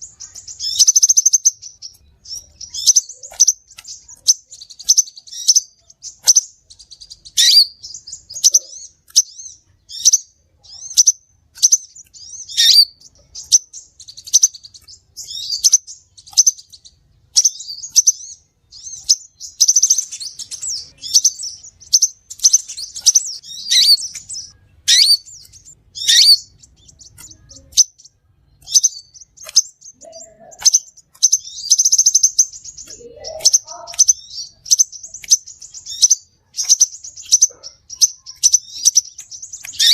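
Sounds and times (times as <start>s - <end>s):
bird chirping with buzzy trills: 0.0s - 39.9s.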